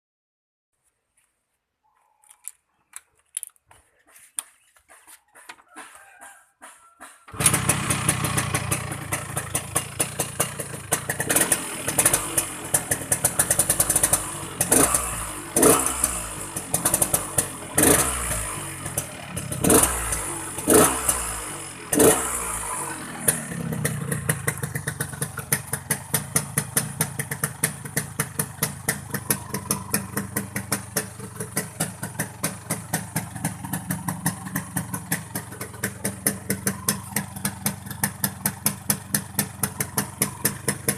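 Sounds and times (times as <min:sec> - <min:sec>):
motorcycle engine idling: 0:07.3 - 0:40.9
motorcycle engine revving: 0:07.3 - 0:40.9
motorcycle engine starting: 0:07.3 - 0:40.9.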